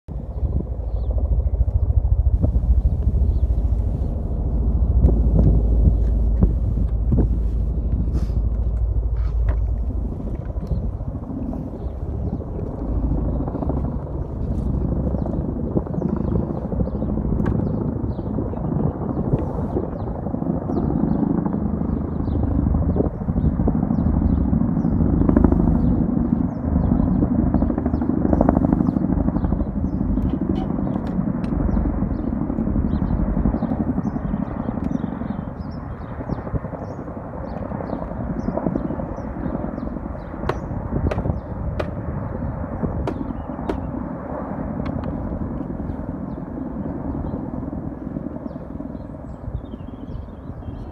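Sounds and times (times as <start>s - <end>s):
helicopter engine noise: 0.1s - 50.9s
helicopter rotor chop: 0.1s - 50.9s.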